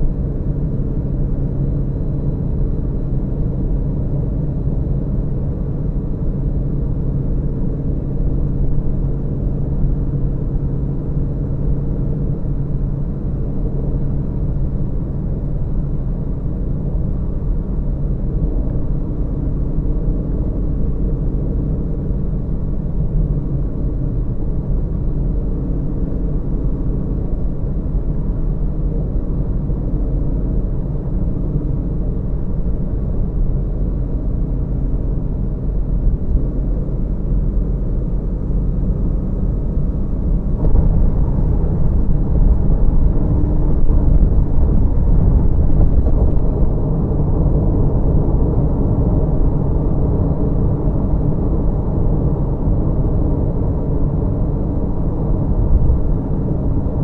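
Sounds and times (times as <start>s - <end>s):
car tyres rumbling on road: 0.0s - 57.0s.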